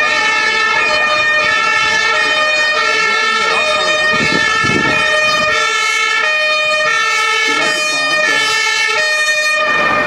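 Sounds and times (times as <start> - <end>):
fire engine two-tone siren: 0.0 - 10.0.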